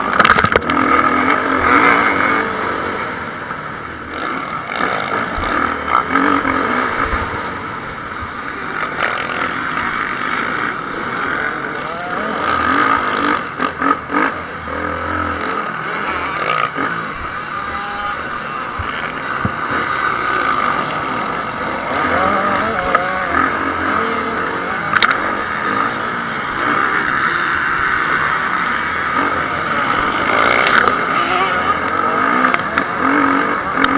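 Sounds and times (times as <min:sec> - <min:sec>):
motocross motorcycle engines revving: 0:00.0 - 0:33.9.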